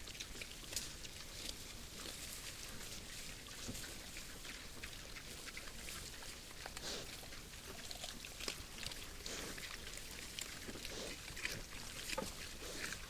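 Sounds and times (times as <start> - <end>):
crackling and crunching: 0.0 - 13.0.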